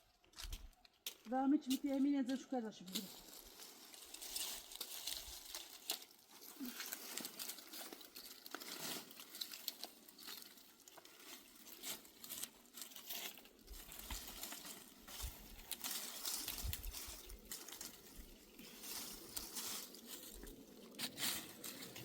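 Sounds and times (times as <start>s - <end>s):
dry twigs crackling and rustling: 0.0s - 22.0s.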